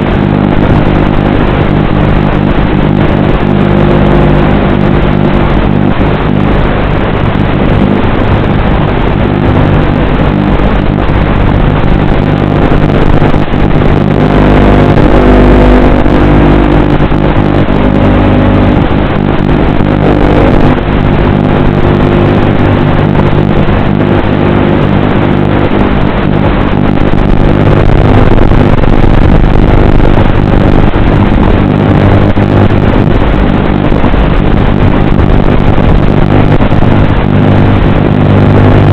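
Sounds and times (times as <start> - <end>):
drone propellers whirring: 0.0 - 38.9.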